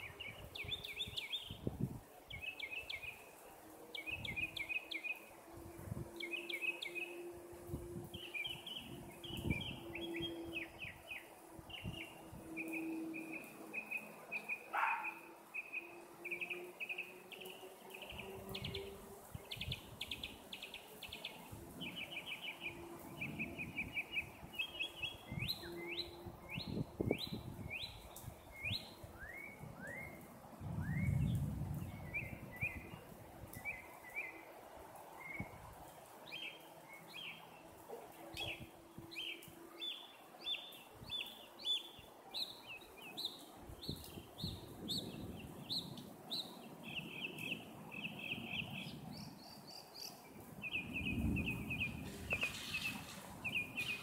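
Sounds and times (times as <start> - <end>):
birds chirping and singing: 0.0 - 30.2, 36.3 - 54.0.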